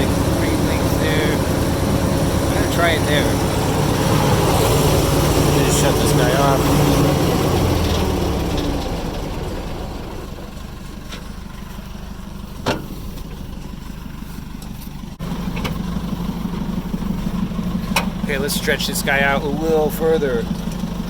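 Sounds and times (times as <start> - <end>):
diesel engine running down: 0.0 - 21.0
low engine rumble: 0.0 - 21.0.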